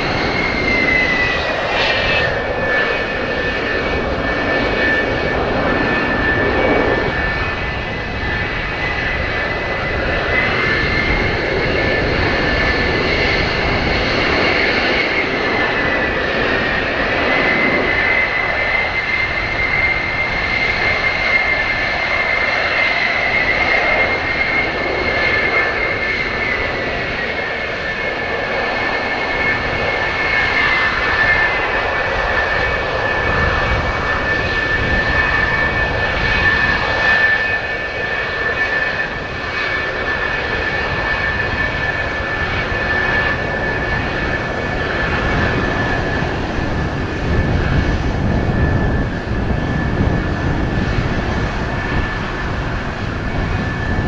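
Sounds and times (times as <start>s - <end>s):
jet engine roar and whine: 0.0s - 54.0s
wind buffeting microphone: 0.0s - 54.0s.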